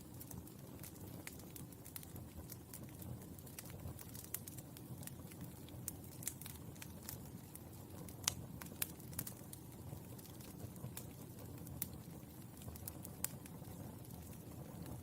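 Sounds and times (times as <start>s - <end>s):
charcoal crackling and popping: 0.0s - 15.0s
low rumble of fire: 0.0s - 15.0s.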